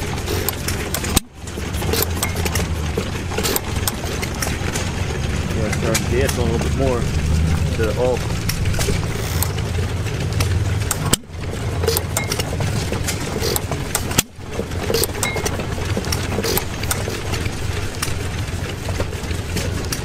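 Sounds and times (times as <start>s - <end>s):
gas engine droning: 0.0s - 20.0s
sharp clicks and pops: 0.0s - 20.0s.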